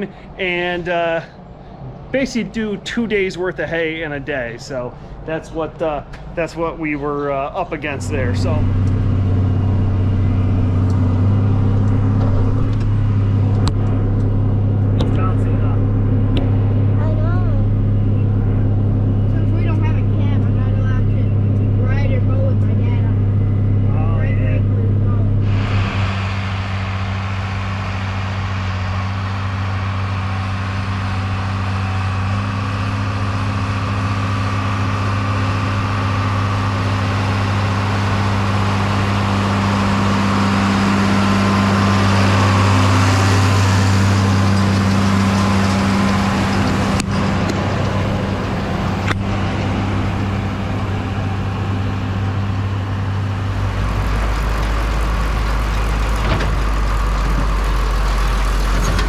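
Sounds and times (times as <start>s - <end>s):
vehicle engine running: 0.0s - 59.0s
deep low rumble: 6.1s - 32.9s, 35.3s - 59.0s.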